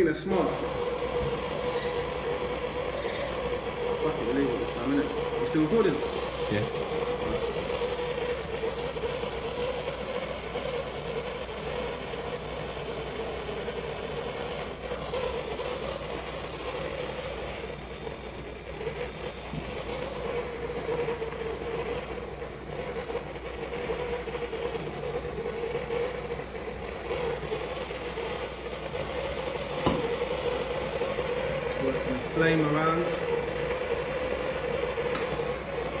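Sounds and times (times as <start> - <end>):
blowtorch flame hissing: 0.0 - 36.0.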